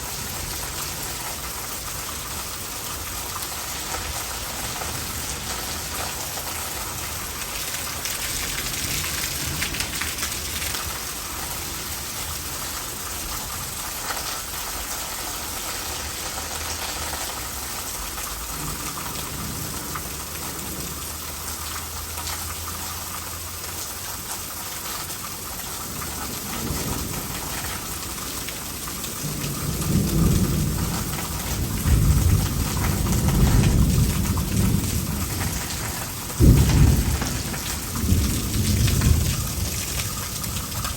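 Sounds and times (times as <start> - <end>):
thunder rumbling: 0.0 - 21.1, 25.8 - 40.9
heavy rain: 0.0 - 40.9
water running into gutter: 0.0 - 40.9.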